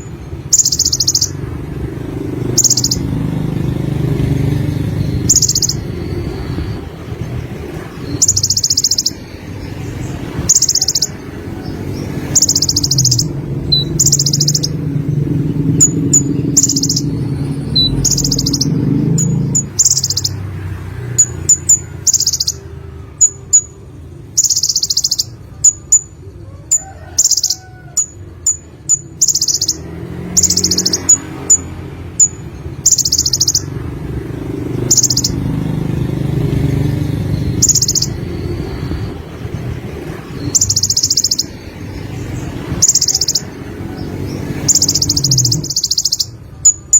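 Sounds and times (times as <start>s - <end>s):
bird singing trilled phrases: 0.0s - 46.9s
sharp bird chips: 0.0s - 46.9s.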